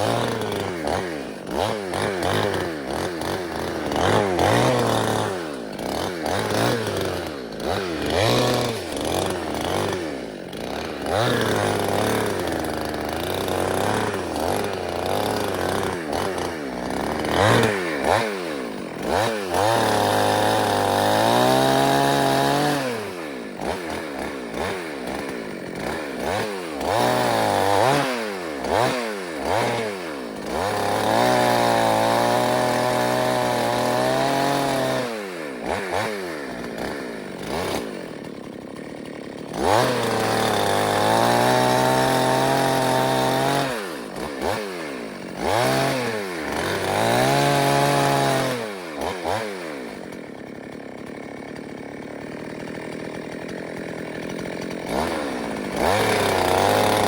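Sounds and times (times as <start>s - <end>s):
two-stroke chainsaw revving: 0.0s - 57.0s.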